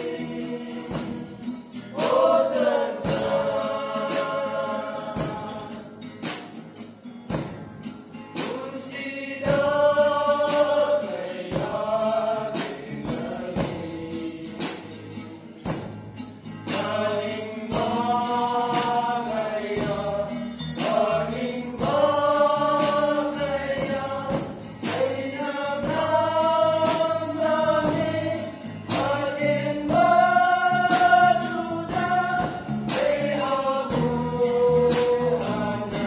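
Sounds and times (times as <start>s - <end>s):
men singing gospel in harmony: 0.0s - 6.4s, 8.2s - 36.0s
acoustic guitar strumming: 0.0s - 36.0s.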